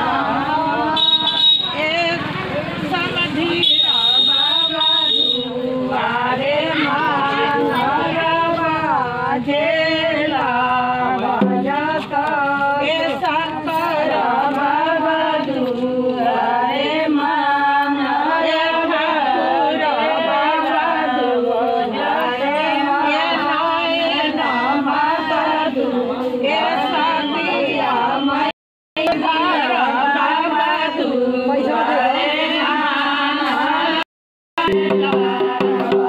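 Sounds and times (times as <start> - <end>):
women singing unaccompanied: 0.0 - 36.0.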